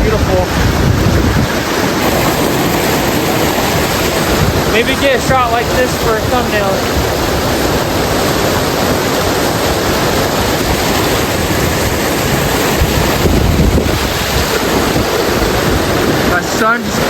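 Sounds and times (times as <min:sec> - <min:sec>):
waterfall rushing: 0:00.0 - 0:17.0
wind rumble on microphone: 0:00.0 - 0:17.0.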